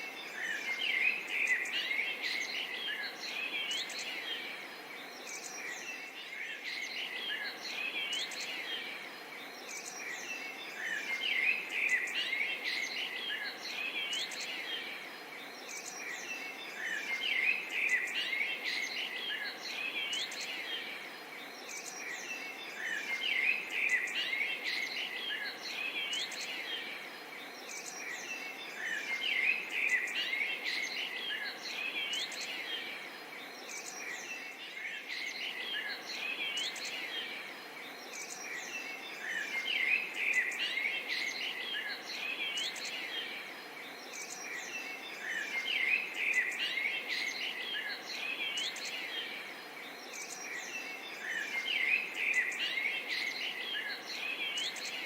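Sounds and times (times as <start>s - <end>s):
background hiss: 0.0s - 55.0s
small birds chirping: 0.0s - 55.0s.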